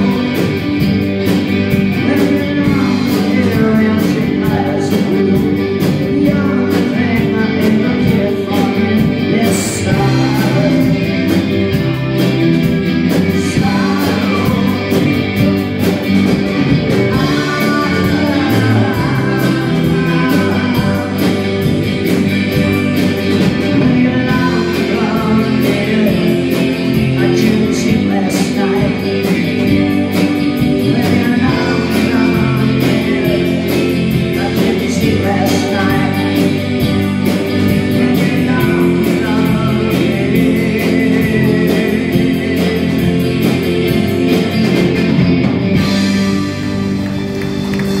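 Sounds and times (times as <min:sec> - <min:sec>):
person singing: 0:00.0 - 0:45.2
drum kit beat: 0:00.0 - 0:48.0
electric guitars: 0:00.0 - 0:48.0.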